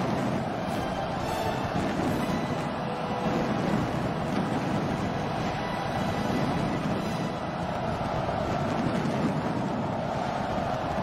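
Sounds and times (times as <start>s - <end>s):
fireworks rumble and crackle: 0.0s - 11.0s.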